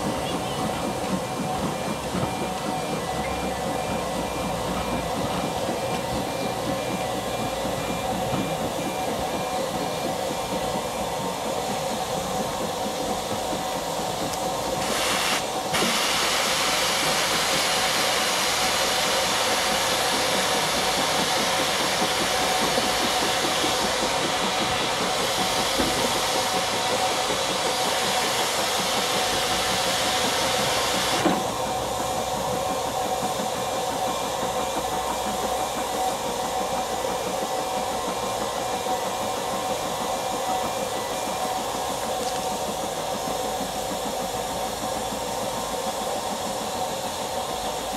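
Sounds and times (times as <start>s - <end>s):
loud steam hiss: 0.0s - 47.9s
steam locomotive hauling train: 0.0s - 47.9s.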